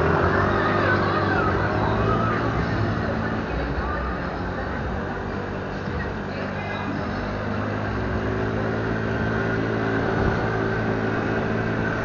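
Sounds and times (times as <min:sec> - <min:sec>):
motorbike engine running: 0:00.0 - 0:12.0
road and wind noise: 0:00.0 - 0:12.0.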